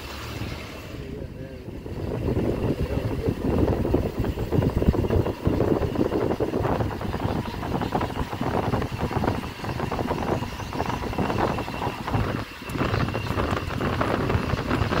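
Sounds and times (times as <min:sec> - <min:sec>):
vehicle engine and road noise: 0:00.0 - 0:15.0
wind buffeting microphone: 0:01.1 - 0:15.0.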